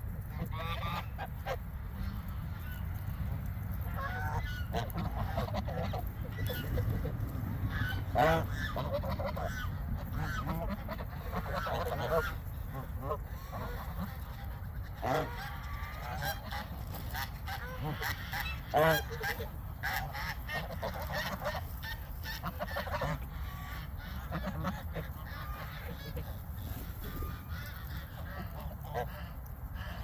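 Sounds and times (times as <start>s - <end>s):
geese honking: 0.2s - 30.0s.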